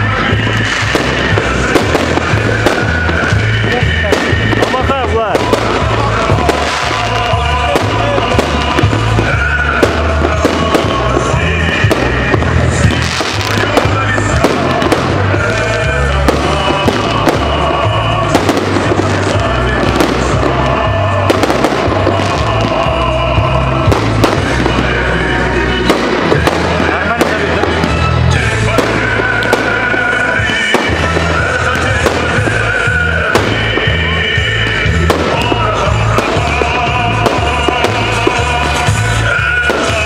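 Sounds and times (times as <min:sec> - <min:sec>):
fireworks bangs and crackles: 0:00.0 - 0:40.0
loud music with heavy bass: 0:00.0 - 0:40.0.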